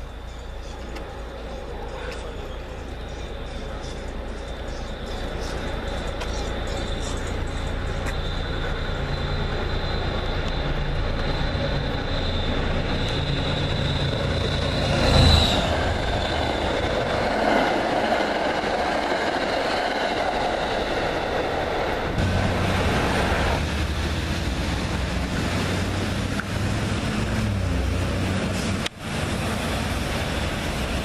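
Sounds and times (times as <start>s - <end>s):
diesel train rumbling past: 0.0s - 31.0s.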